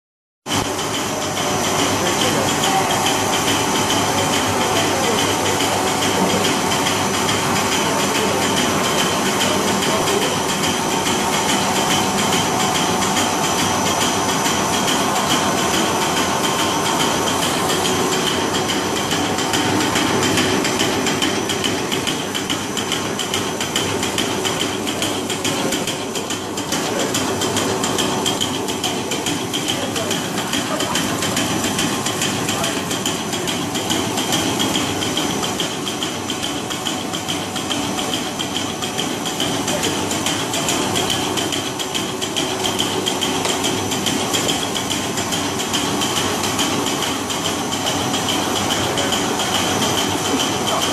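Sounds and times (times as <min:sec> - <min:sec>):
machine clattering ticks: 0:00.5 - 0:50.9.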